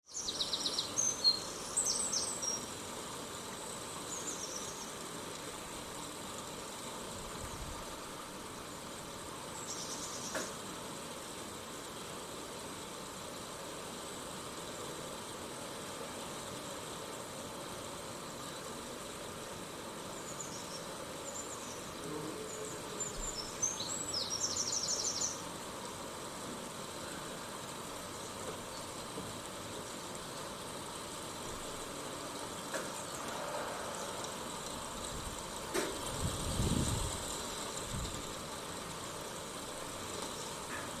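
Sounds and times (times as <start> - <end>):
rain hissing: 0.1 - 41.0.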